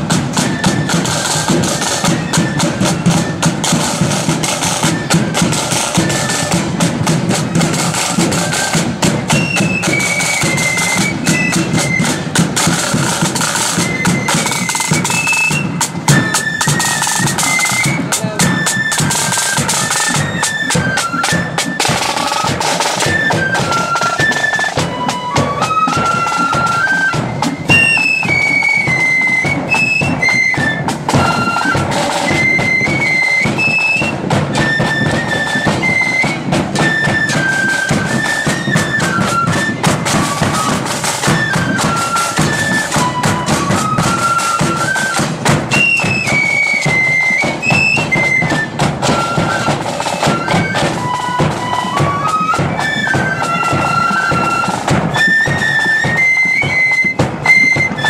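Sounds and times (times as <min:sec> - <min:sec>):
flutes playing melody: 0:00.0 - 0:58.0
side drum rolls: 0:00.0 - 0:58.0.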